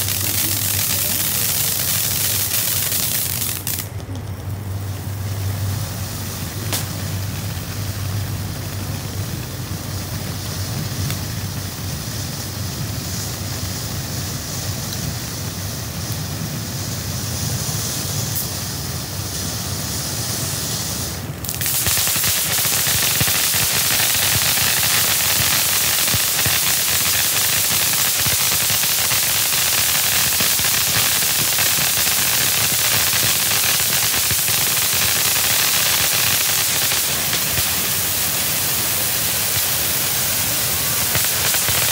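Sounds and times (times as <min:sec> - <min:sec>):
firework fountain hissing: 0:00.0 - 0:41.9.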